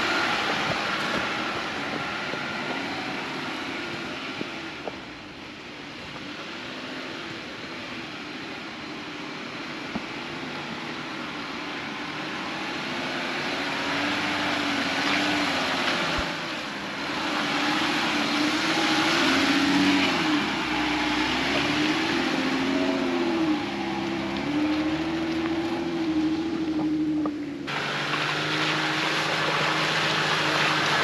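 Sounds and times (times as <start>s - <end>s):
engine revving: 0.0s - 4.9s, 9.9s - 31.0s.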